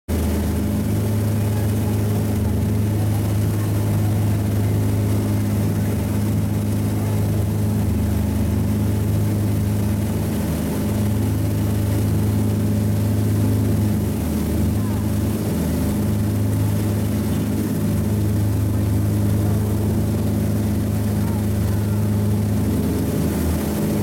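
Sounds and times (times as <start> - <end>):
motorboat engine humming: 0.1 - 24.0.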